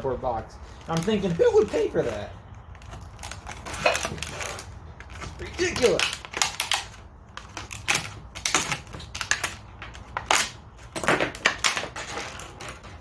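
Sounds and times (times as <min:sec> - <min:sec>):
small hard parts clicking and rattling: 0:00.7 - 0:13.0.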